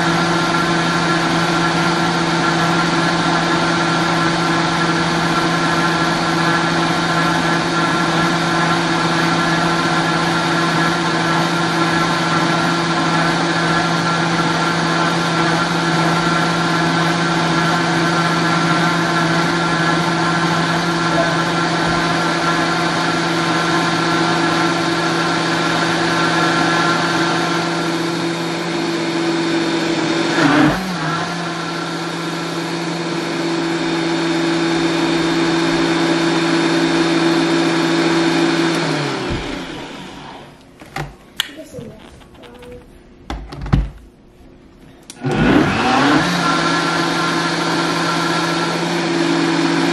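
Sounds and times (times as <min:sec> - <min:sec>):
blender motor humming: 0:00.0 - 0:40.6, 0:45.1 - 0:49.9.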